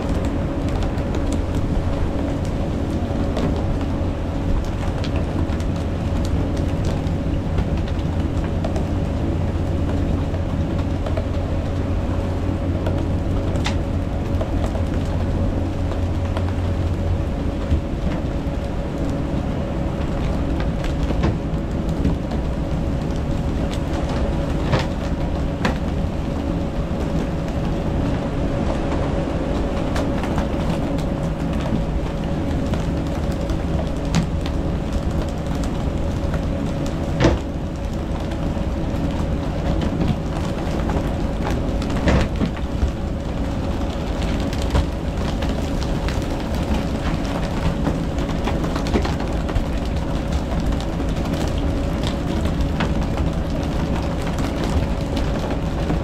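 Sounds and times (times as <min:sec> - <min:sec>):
boat engine running: 0:00.0 - 0:56.0
water wash: 0:00.0 - 0:56.0.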